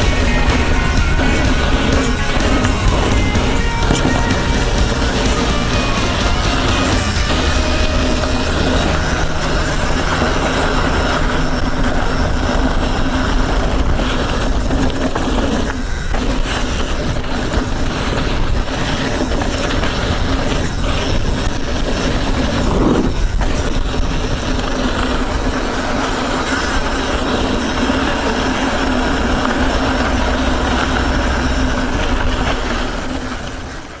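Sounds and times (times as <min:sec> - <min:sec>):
bike rattling: 0:00.0 - 0:34.0
tyres rolling over dirt: 0:00.0 - 0:34.0
wind rumbling on microphone: 0:00.0 - 0:34.0.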